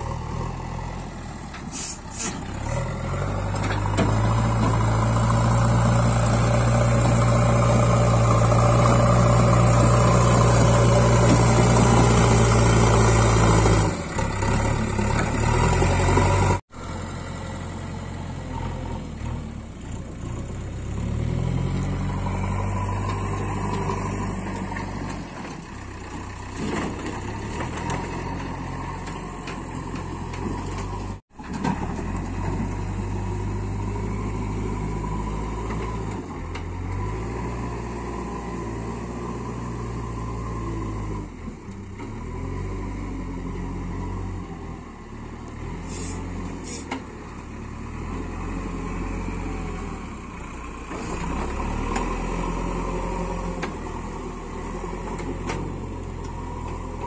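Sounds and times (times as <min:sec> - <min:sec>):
diesel engine working under load: 0:00.0 - 0:57.0.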